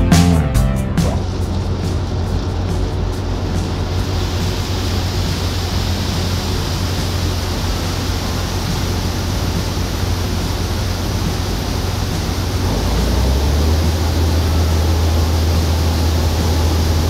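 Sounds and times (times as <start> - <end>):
broad rushing noise: 0.0 - 17.0
heavy diesel engine hum: 0.0 - 17.0.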